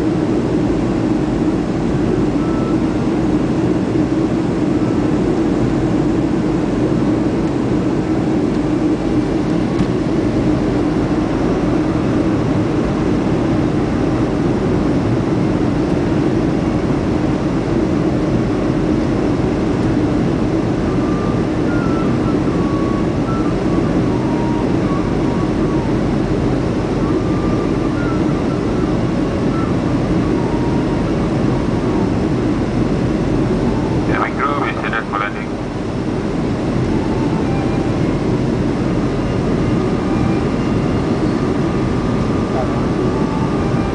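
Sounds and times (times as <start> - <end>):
jet engine cabin drone: 0.0 - 43.9.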